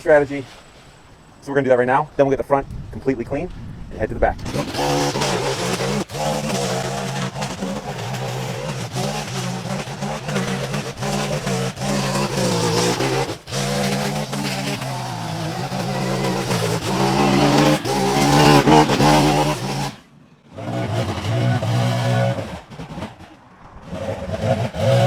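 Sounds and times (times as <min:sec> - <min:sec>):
string trimmer engine revving: 0:04.4 - 0:25.0.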